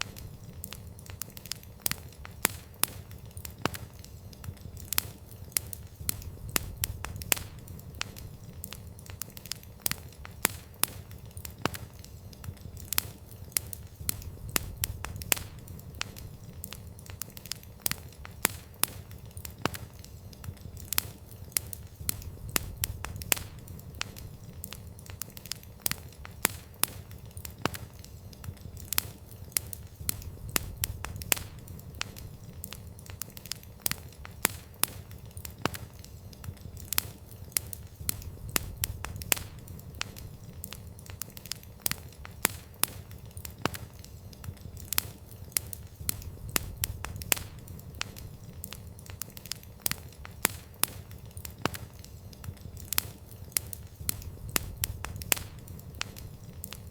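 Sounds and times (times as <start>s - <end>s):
campfire pops and snaps: 0.0s - 56.9s
low rumble of flames: 0.0s - 56.9s.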